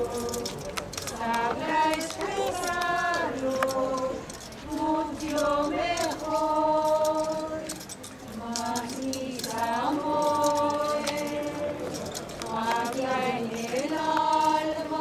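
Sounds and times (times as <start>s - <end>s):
group singing a slow hymn: 0.0s - 15.0s.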